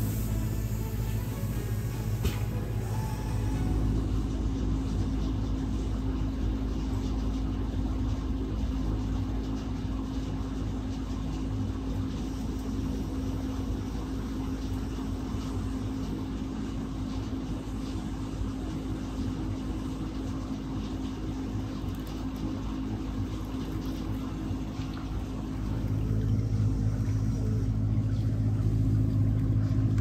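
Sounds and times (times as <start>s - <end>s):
shop equipment humming: 0.0s - 30.0s.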